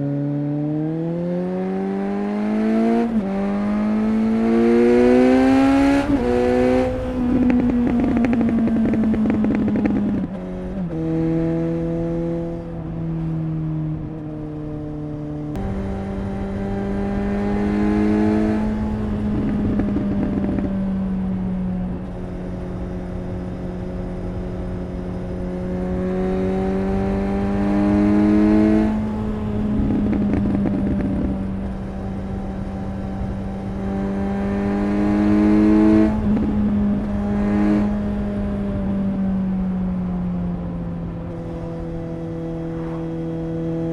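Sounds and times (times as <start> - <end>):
motorcycle engine and exhaust: 0.0 - 43.9
exhaust crackling: 3.9 - 11.8, 15.4 - 40.1, 41.0 - 43.9.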